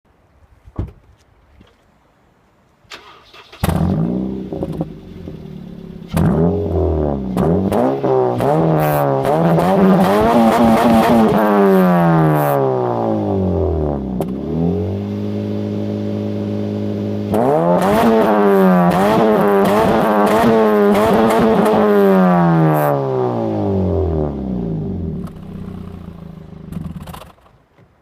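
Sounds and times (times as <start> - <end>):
car engine starting: 2.9 - 27.7
car engine revving: 3.4 - 27.4
car engine idling: 3.7 - 27.5.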